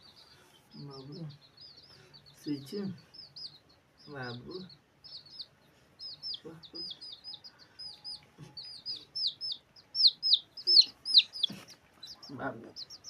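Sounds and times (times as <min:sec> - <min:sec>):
rapid high-pitched peeping: 0:00.0 - 0:13.0.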